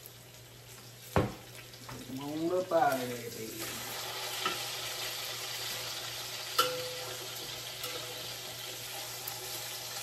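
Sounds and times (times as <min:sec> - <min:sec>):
meat sizzling in a skillet: 0:00.0 - 0:10.0.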